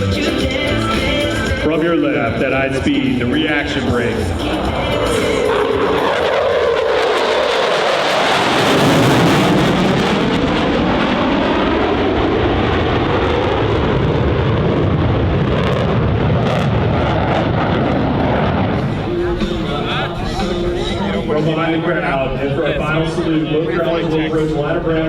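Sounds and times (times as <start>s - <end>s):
jet engines passing: 0.0s - 25.0s.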